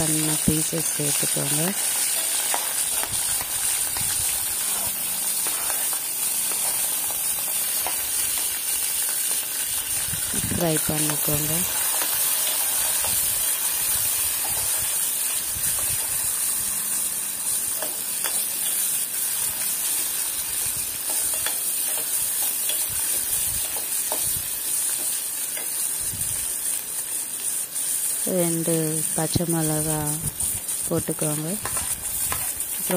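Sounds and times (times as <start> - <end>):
onions sizzling in hot oil: 0.0 - 32.9.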